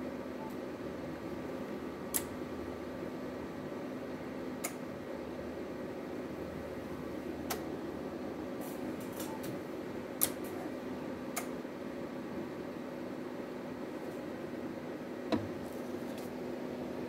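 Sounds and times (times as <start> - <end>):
cooling fan humming: 0.0 - 17.0.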